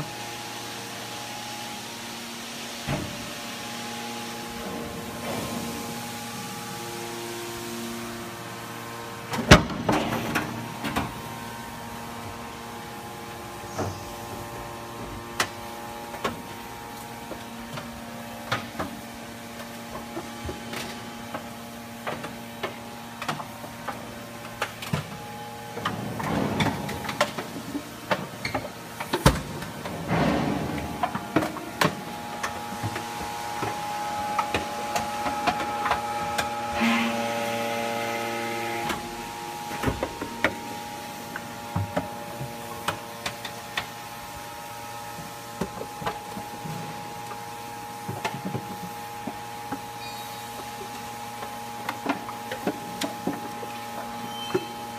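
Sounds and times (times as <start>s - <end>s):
hydraulic power pack humming: 0.0s - 54.9s.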